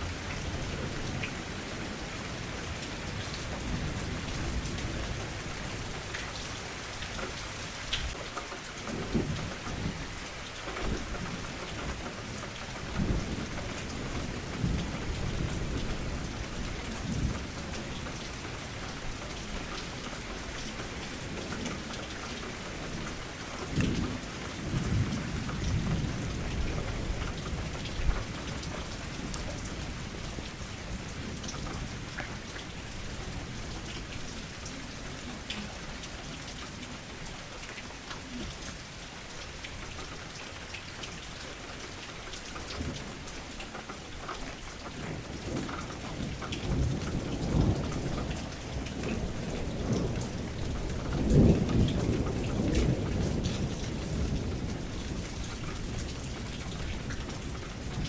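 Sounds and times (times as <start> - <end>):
low rolling thunder: 0.0 - 6.8, 8.9 - 39.7, 44.8 - 58.0
steady rain falling: 0.0 - 58.0.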